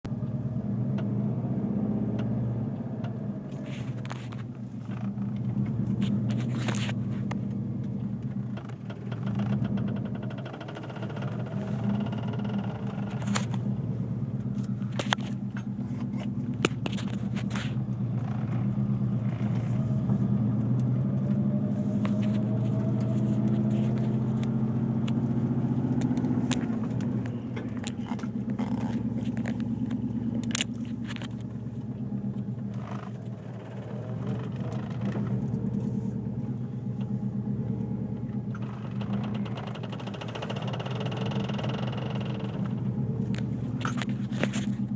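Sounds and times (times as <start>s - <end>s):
car engine running: 0.1s - 44.9s
sharp clicks and rattles: 3.0s - 21.4s, 22.0s - 44.9s.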